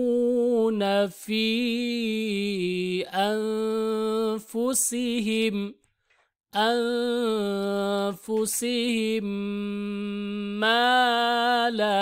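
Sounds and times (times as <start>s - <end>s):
person chanting a recitation: 0.0s - 5.8s, 6.6s - 12.0s.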